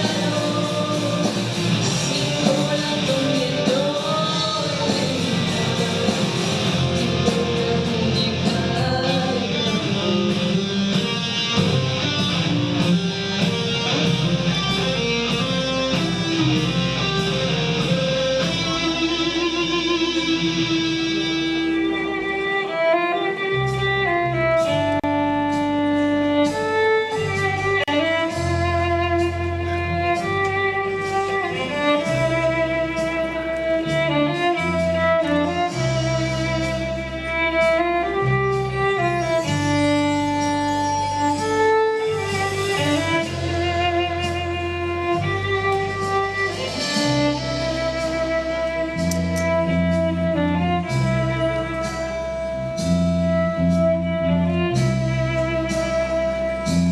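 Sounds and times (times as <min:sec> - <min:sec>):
band lead melody: 0:00.0 - 0:56.9
bass line: 0:00.0 - 0:56.9.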